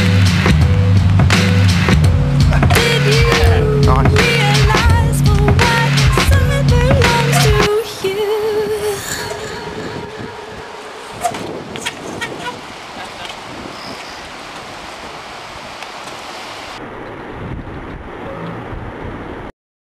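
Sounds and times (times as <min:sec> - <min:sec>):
wind buffeting microphone: 0:02.4 - 0:19.5.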